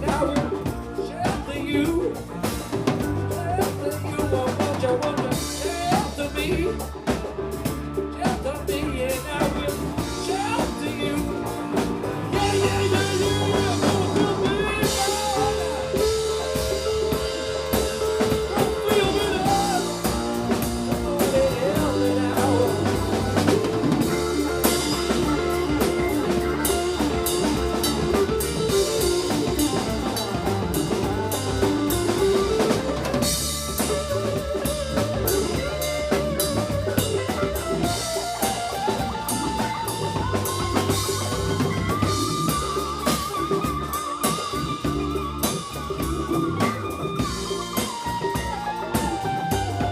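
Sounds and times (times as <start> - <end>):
bass: 0.0 - 49.9
drum kit groove: 0.0 - 49.9
melodic lead lines: 0.0 - 49.9.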